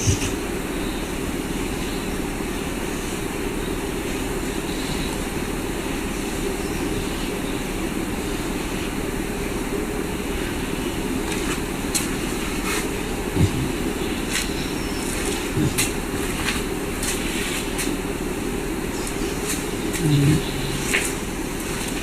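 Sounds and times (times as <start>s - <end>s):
machinery humming: 0.0s - 22.0s.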